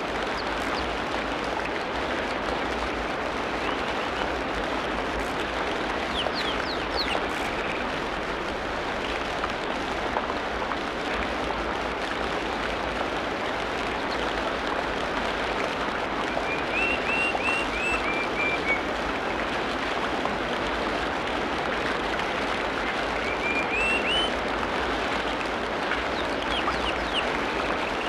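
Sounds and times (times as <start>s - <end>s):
rain or running water hiss: 0.0s - 28.0s.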